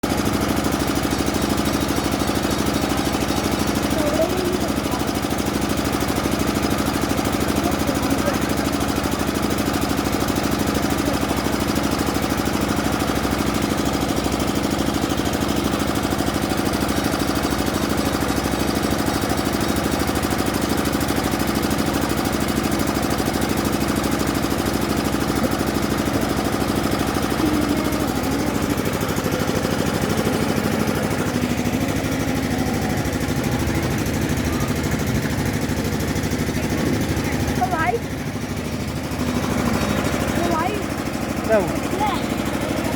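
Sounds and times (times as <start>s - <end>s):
construction machinery engine throbbing: 0.0s - 42.9s.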